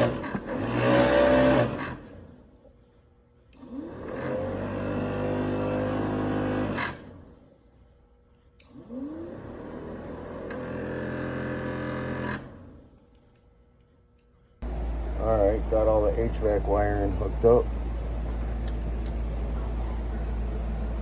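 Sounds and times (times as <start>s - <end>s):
heater blower fan whine: 0.0s - 21.0s.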